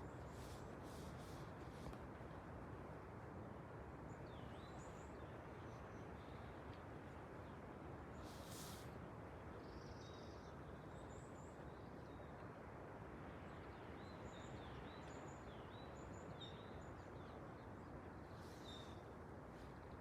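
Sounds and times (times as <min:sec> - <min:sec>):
forest background hiss: 0:00.0 - 0:20.0.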